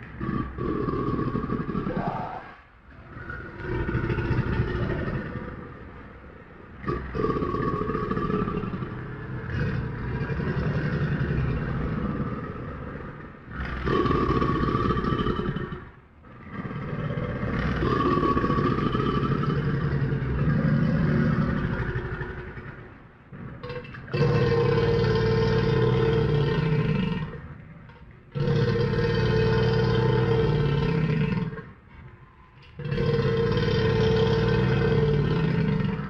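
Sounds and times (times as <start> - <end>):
crocodile growling: 0.0 - 36.0.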